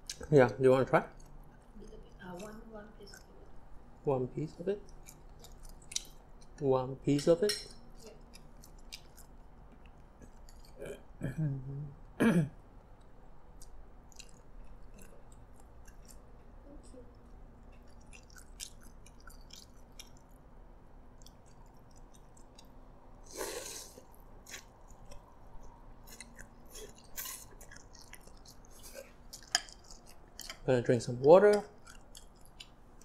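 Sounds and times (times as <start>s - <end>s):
person chewing food: 1.1s - 4.0s, 4.6s - 6.6s, 7.7s - 11.0s, 12.8s - 33.0s.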